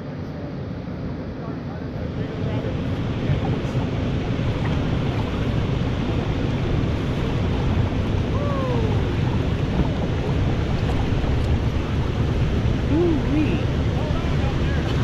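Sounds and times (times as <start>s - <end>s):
wind buffeting microphone: 2.1s - 15.0s
river rapid rushing: 2.8s - 15.0s.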